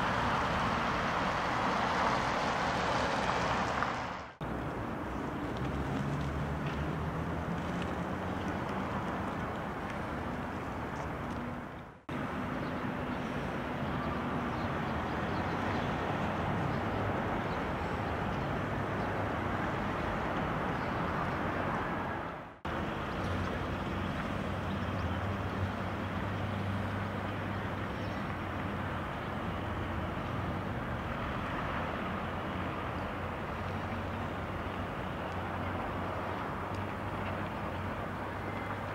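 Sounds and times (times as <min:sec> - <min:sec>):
traffic noise: 0:00.0 - 0:38.9.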